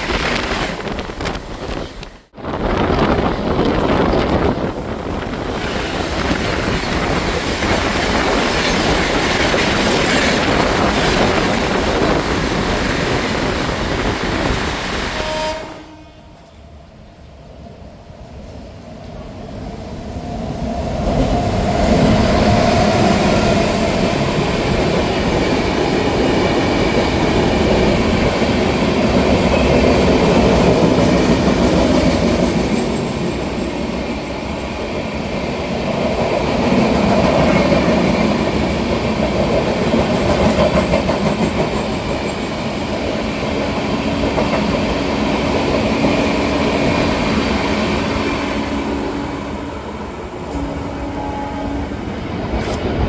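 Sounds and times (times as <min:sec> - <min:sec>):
train wheels rushing on rail: 0:00.0 - 0:53.0.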